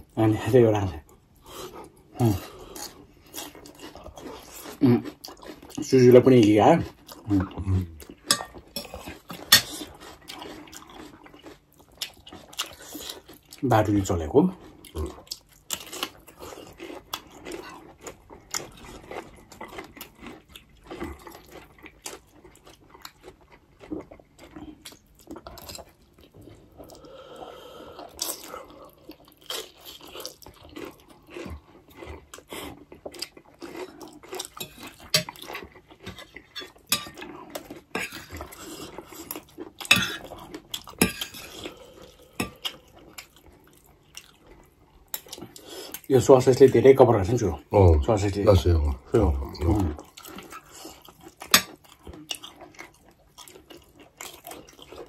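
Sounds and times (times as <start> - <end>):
chewing: 1.0 - 55.0.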